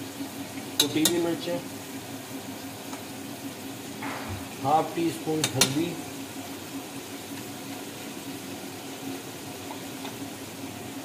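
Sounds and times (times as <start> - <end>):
food hissing in a pan: 1.3 - 11.0.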